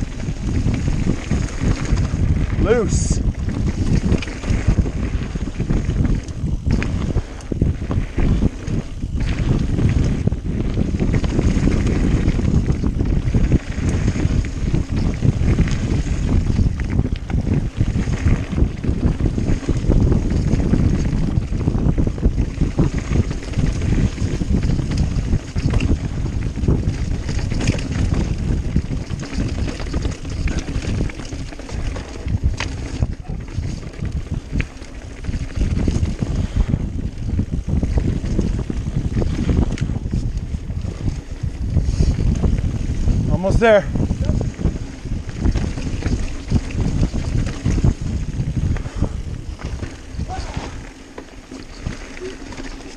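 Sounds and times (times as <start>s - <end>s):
bike clattering over rough ground: 0.0s - 52.9s
bike tyres rolling on dirt: 0.0s - 52.9s
wind rushing over microphone: 0.0s - 52.9s.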